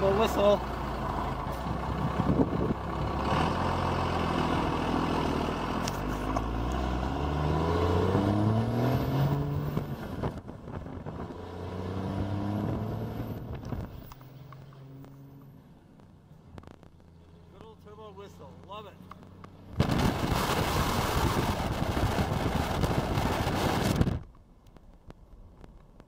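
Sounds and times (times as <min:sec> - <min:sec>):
diesel engine accelerating: 0:00.0 - 0:24.1.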